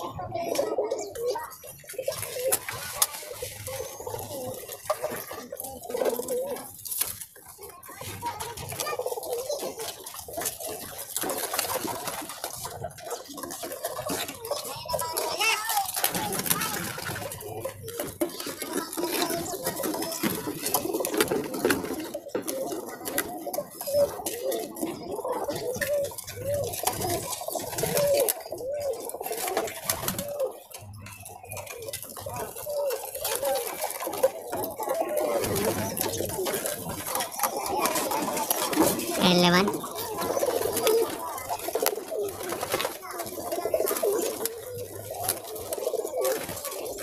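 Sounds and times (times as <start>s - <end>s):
pigeons cooing: 0.0s - 47.0s.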